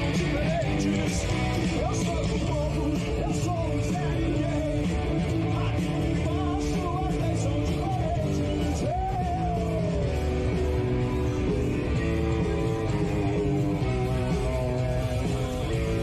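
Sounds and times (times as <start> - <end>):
rock music with singing and guitar: 0.0 - 16.0.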